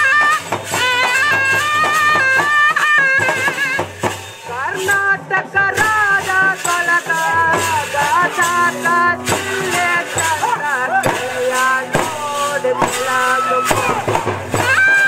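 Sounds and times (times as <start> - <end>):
drum beats: 0.0 - 15.0
shaken rattle: 0.4 - 15.0.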